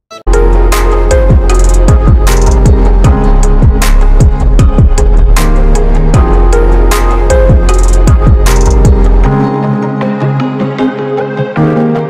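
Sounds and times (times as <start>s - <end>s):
fast electronic music: 0.1s - 10.0s.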